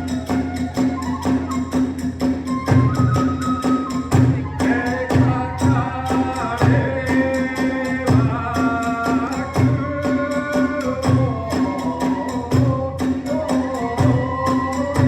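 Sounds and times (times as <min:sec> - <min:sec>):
bamboo flute melody: 0:00.0 - 0:07.3, 0:08.2 - 0:15.0.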